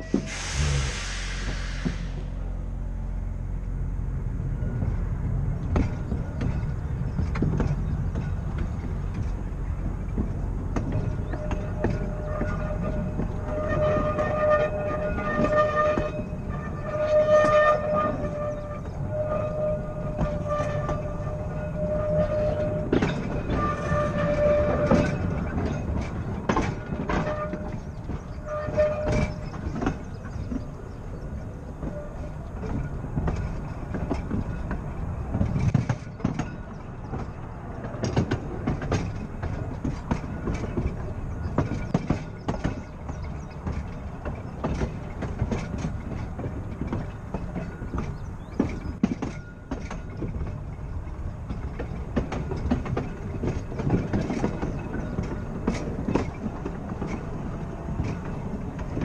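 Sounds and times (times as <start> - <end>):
steel wheels rumbling on rails: 0.0 - 59.0
tram clicks and knocks: 0.0 - 59.0.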